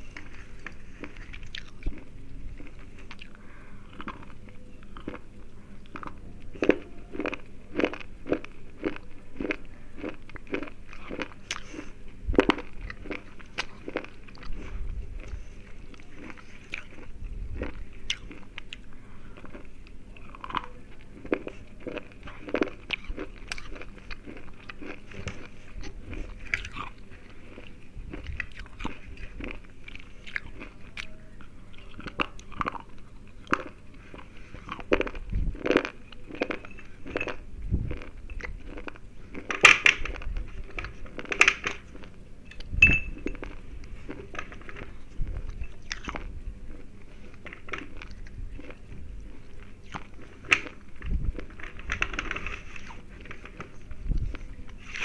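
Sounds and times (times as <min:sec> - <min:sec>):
biting and chewing brittle pencils: 0:00.0 - 0:55.0.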